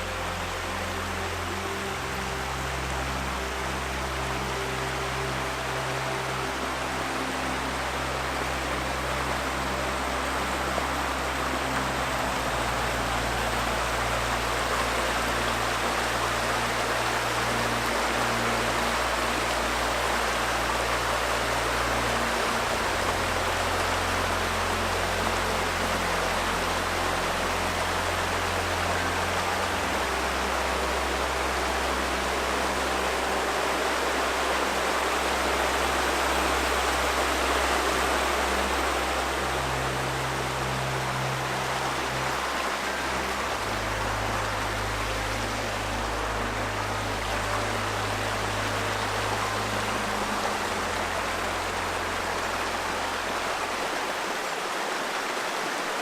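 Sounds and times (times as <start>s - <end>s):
river water rushing: 0.0s - 56.0s
soft low sustained music notes: 0.0s - 56.0s.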